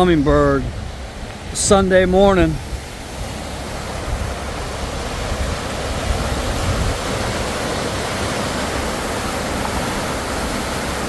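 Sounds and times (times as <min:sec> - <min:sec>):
creek floodwater rushing: 0:00.0 - 0:11.0.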